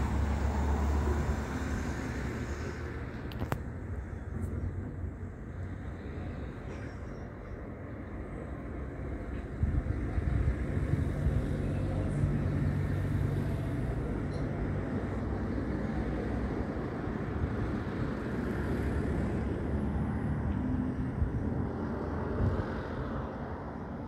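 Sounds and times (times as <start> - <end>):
outdoor background rumble and hiss: 0.0 - 24.0.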